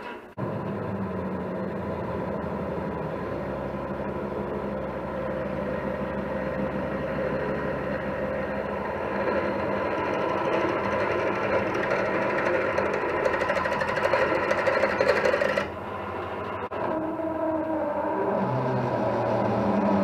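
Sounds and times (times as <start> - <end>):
metal lathe running: 0.4 - 20.0.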